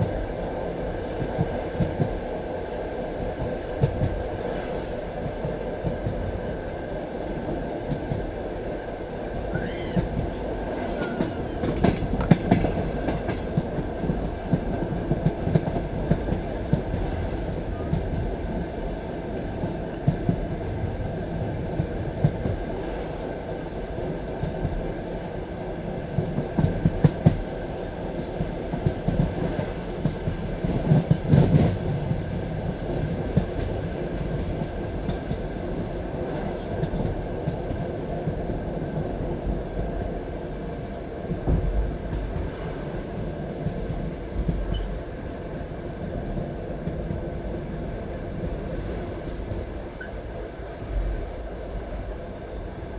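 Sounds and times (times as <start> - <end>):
train carriage rumbling: 0.0 - 52.9.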